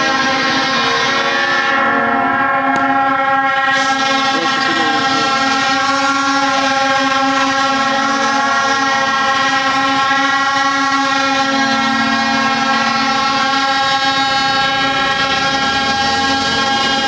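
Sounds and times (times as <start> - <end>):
crowd blowing horns: 0.0 - 17.0.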